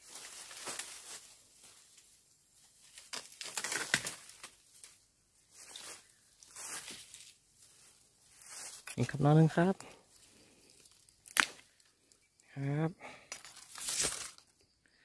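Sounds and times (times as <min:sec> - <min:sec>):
leaf litter crunching underfoot: 0:00.0 - 0:11.9, 0:13.5 - 0:14.4
bamboo leaves rustling: 0:00.0 - 0:12.4, 0:13.1 - 0:14.8.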